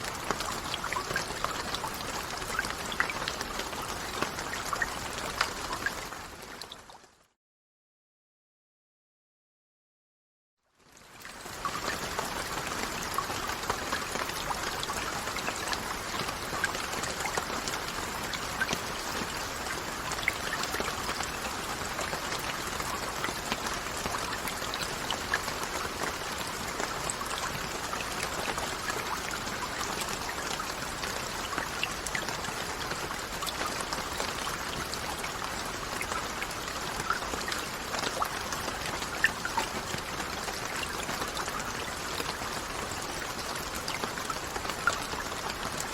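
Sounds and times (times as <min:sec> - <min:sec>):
steady rain falling: 0:00.0 - 0:07.1, 0:10.7 - 0:45.9.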